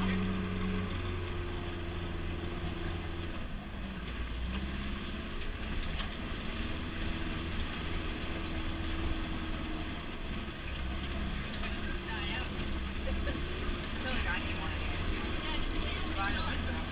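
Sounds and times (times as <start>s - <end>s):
truck engine running: 0.0s - 16.9s.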